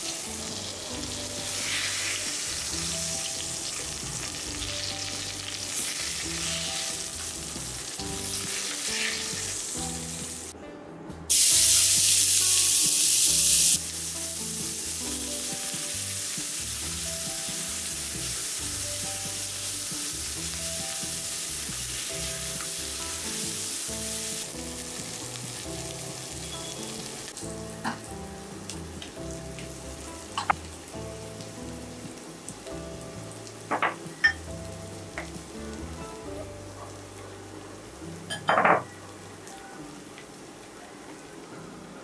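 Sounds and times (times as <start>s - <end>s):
onions sizzling in hot oil: 0.0s - 10.5s, 11.3s - 37.2s.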